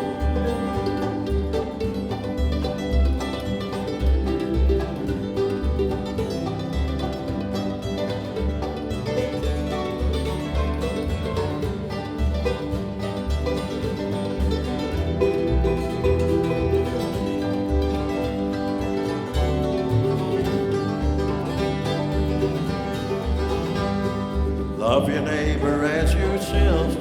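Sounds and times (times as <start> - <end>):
banjo and guitar picking: 0.0 - 27.0
bluegrass band playing: 0.0 - 27.0
walking bass: 0.0 - 27.0.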